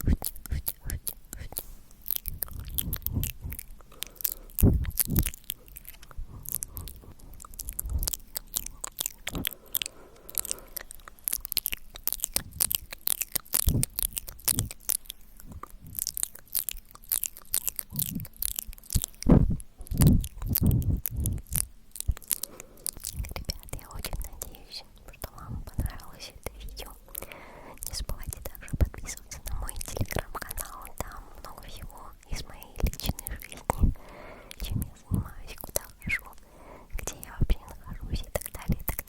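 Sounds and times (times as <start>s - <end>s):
wet mouth clicks and lip smacks: 0.0s - 39.0s.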